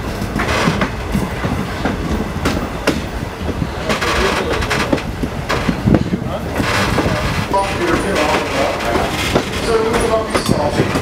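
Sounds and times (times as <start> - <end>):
train cars rumbling: 0.0 - 11.0
wheels clicking over rail joints: 0.0 - 11.0.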